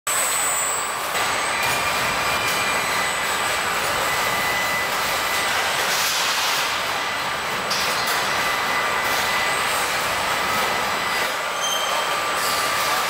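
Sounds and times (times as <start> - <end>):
high steady machine whines: 0.1 - 13.0.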